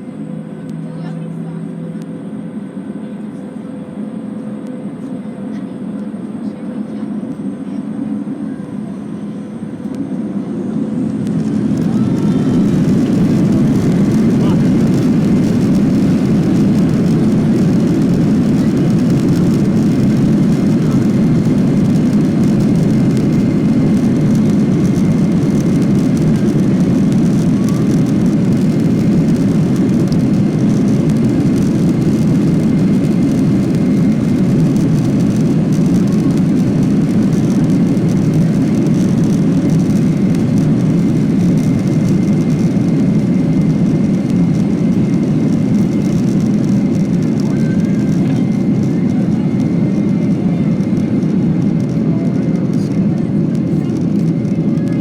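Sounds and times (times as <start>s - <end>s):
jet engines rumbling: 0.0s - 55.0s
thin engine whine: 0.0s - 55.0s.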